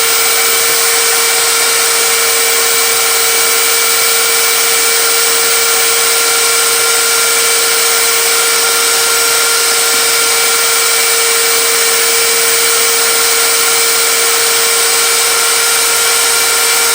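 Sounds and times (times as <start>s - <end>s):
power tool motor whining: 0.0s - 16.9s.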